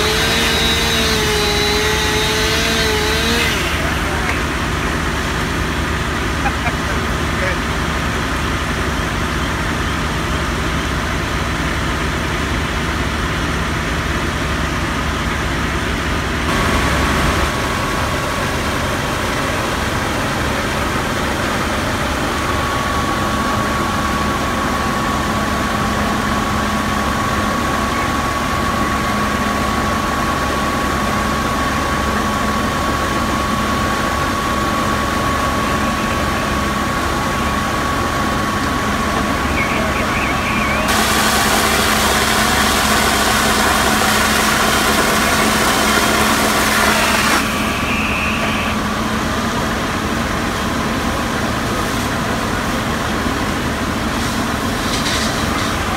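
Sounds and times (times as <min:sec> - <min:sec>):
steady high whine: 0:00.0 - 0:55.9
vehicle engine running: 0:00.0 - 0:55.9.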